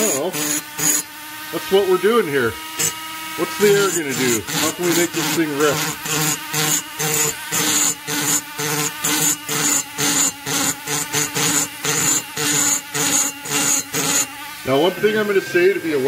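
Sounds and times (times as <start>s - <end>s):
rotary grinder grinding metal: 0.0s - 16.0s.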